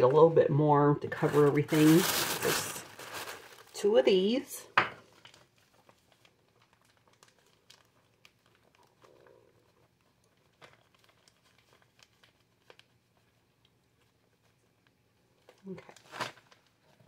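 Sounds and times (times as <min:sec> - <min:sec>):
plastic bag crinkling: 0:01.0 - 0:17.0.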